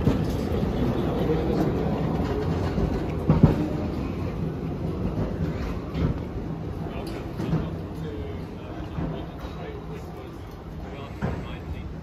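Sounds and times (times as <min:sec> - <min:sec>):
tram rumbling along rails: 0:00.0 - 0:12.0.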